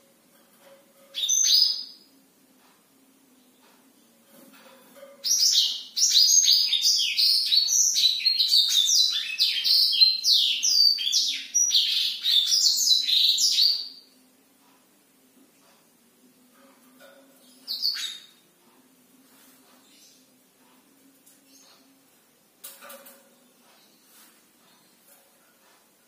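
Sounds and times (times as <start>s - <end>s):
canary singing chirps and trills: 0.0s - 26.0s.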